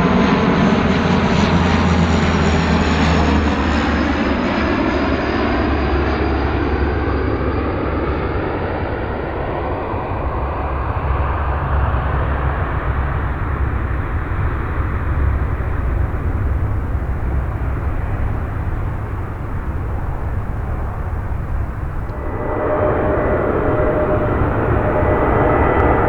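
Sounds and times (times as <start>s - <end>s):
airliner engines rumbling: 0.0s - 26.0s.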